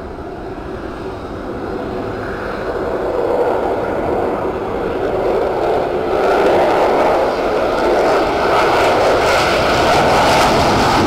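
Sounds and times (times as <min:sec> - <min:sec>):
fighter jet engines roaring: 0:00.0 - 0:11.0.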